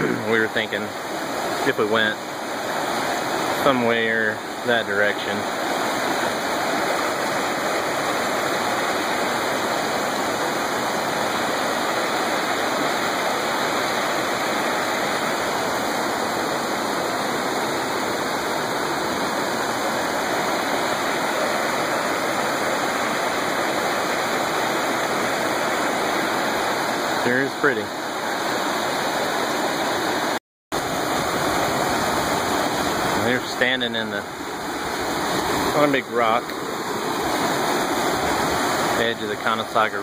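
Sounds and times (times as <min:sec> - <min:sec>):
river rushing over boulders: 0:00.0 - 0:40.0.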